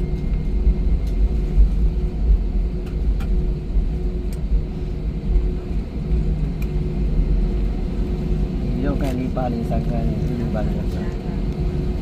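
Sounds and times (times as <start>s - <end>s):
airliner cabin rumble: 0.0s - 12.0s
faint engine hum: 0.0s - 12.0s.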